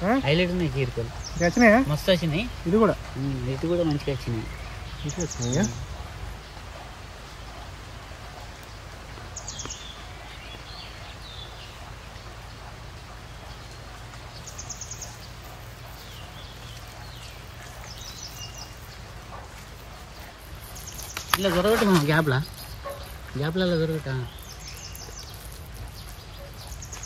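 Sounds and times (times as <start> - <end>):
bird chirping: 0.0 - 6.6, 8.6 - 27.0
outdoor background noise: 0.0 - 27.0.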